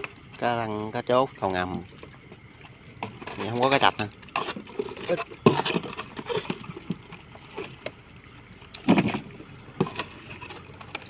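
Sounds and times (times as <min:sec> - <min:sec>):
fish thrashing and splashing: 0:01.3 - 0:11.0.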